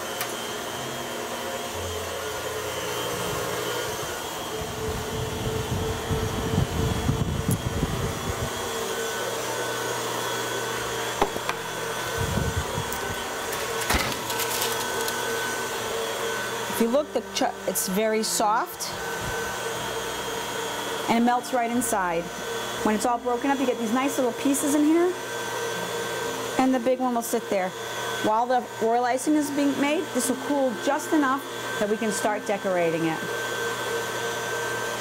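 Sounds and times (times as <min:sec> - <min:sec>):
stand mixer motor whir: 0:00.0 - 0:35.0.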